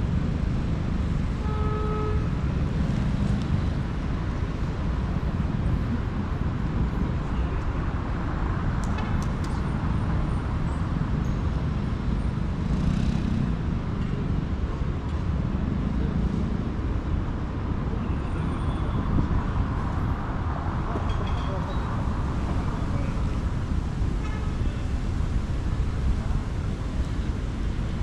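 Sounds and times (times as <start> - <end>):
city street traffic rumble: 0.0 - 28.0.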